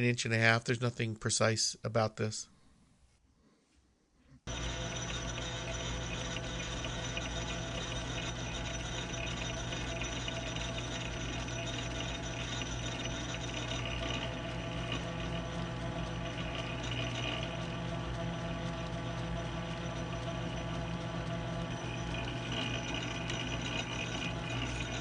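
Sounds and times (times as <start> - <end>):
metal lathe cutting: 4.5 - 25.0.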